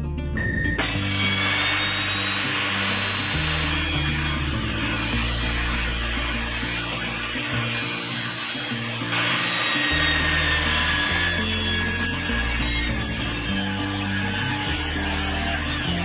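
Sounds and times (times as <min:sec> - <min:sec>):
background music: 0:00.0 - 0:16.0
table saw cutting wood: 0:00.8 - 0:16.0.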